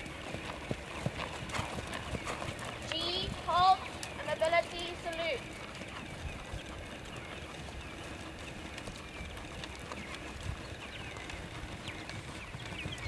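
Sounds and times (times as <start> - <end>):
hoofbeats on sand: 0.0 - 13.0.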